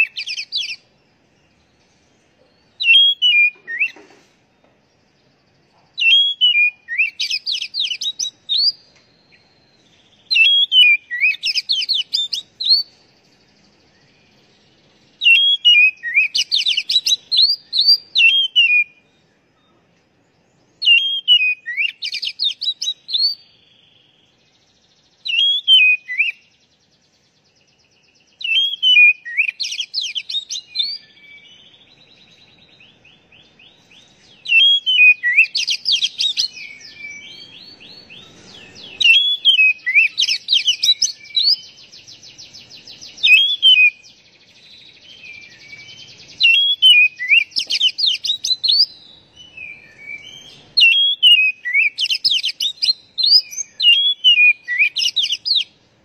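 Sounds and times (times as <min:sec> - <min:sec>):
faint bird twitter: 0:00.0 - 0:56.0
magpie-robin singing: 0:00.0 - 0:56.0.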